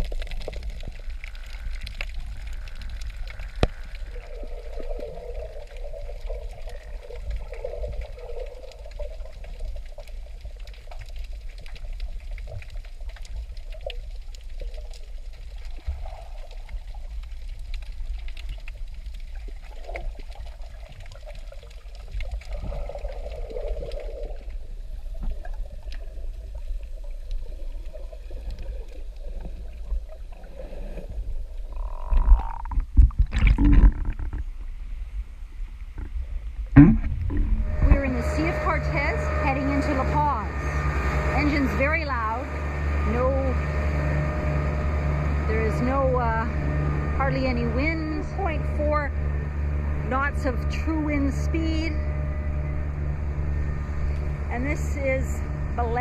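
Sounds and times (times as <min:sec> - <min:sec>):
steady low rumble: 0:00.0 - 0:56.0
water sloshing and trickling: 0:00.0 - 0:56.0.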